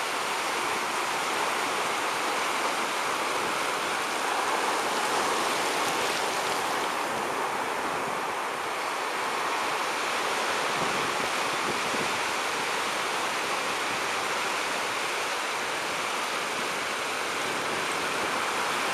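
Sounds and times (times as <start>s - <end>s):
ocean waves and surf: 0.0s - 18.9s.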